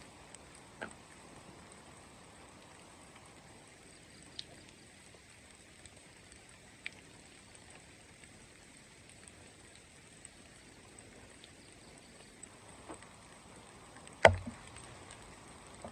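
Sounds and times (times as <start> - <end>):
faint steady rain: 0.0 - 15.9
sharp drip-like ticks: 0.0 - 15.9.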